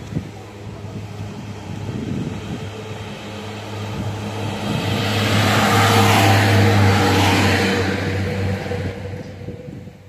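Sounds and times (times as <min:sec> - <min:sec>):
diesel train engine drone: 0:00.0 - 0:10.0
wheel-on-rail noise: 0:00.0 - 0:10.0.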